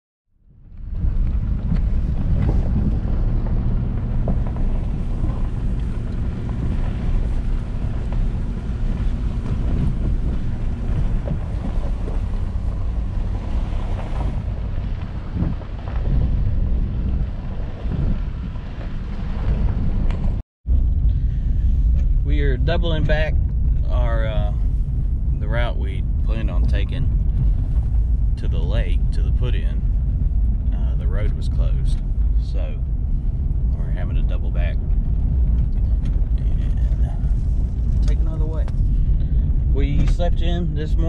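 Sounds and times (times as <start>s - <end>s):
wind buffeting microphone: 0.5s - 41.0s.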